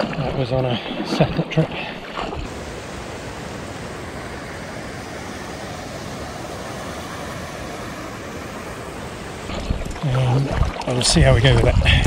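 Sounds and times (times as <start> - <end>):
whitewater rushing: 2.2 - 12.0.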